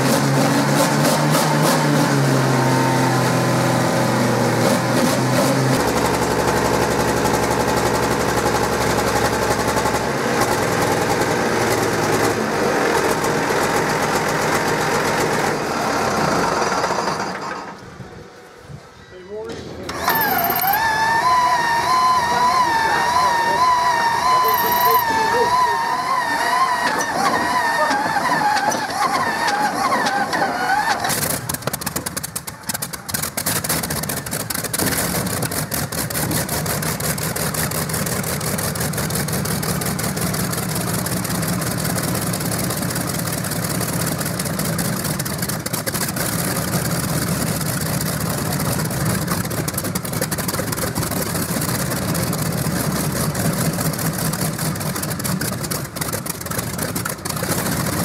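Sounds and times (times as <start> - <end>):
radial engine starting and running: 0.0 - 18.5, 19.7 - 58.0.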